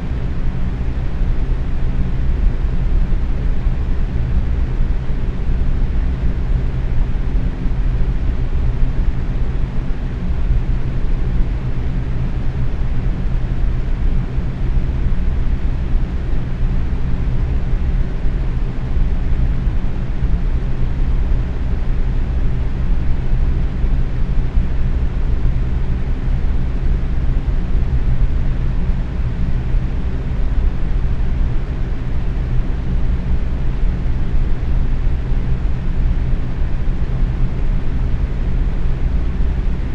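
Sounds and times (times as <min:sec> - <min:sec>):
box fan rush of air: 0:00.0 - 0:39.9.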